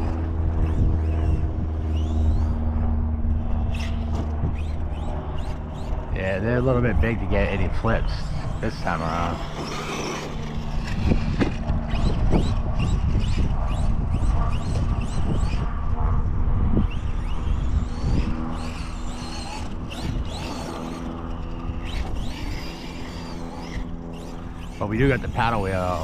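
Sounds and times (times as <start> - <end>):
electric motor whining: 0.0 - 26.0
wind rumble on microphone: 0.0 - 26.0.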